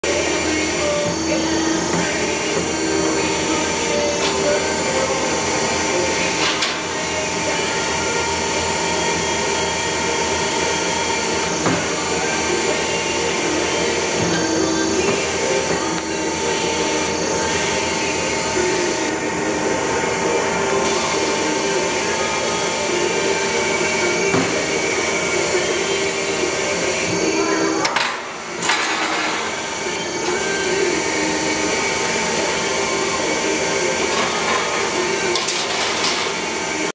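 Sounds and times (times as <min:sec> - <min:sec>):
machinery hum and whine: 0:00.0 - 0:36.9.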